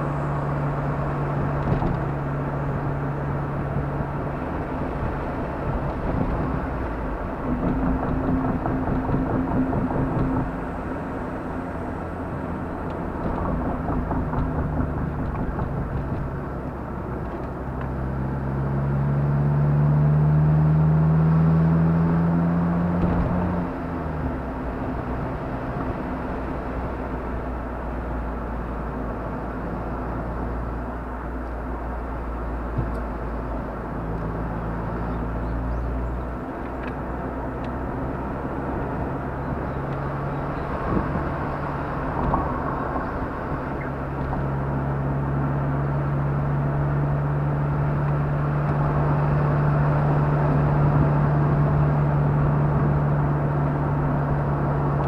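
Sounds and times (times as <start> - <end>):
car engine accelerating: 0.0 - 55.0
road noise: 0.0 - 55.0.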